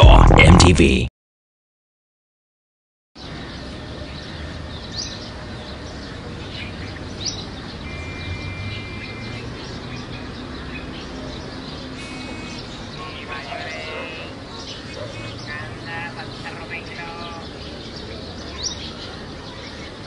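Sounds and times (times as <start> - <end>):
birds chirping: 3.2 - 20.0.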